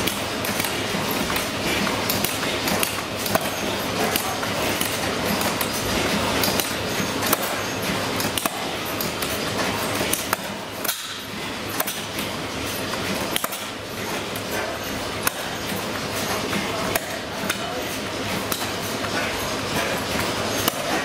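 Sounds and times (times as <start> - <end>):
stationary engines clattering: 0.0 - 21.0.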